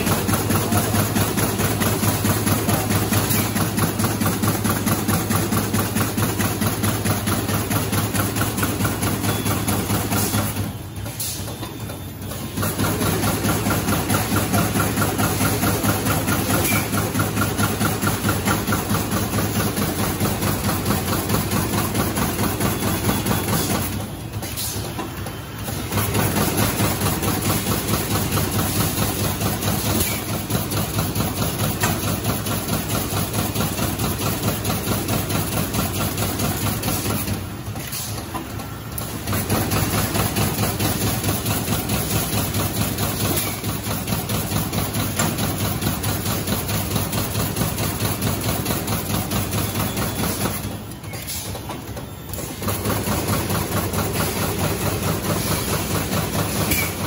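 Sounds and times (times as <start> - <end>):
machine clattering: 0.0 - 57.0.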